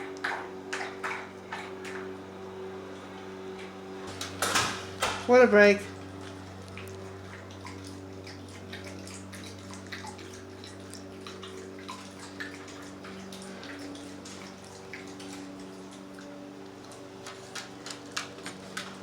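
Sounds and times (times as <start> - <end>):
dogs lapping water: 0.0 - 19.0
low electrical hum: 0.0 - 19.0.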